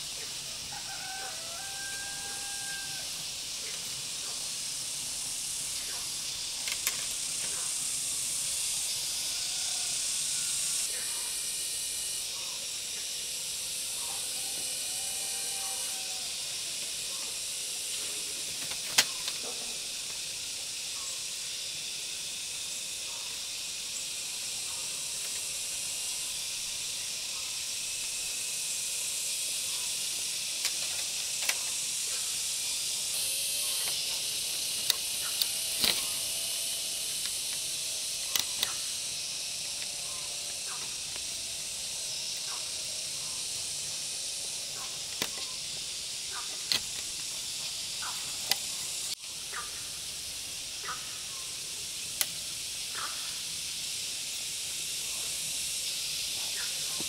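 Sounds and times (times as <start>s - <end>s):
steady high-pitched hiss: 0.0s - 57.0s.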